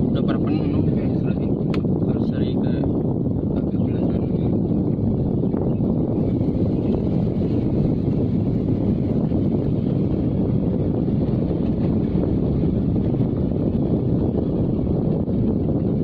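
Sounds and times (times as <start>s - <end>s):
car rumbling from inside cabin: 0.0s - 16.0s.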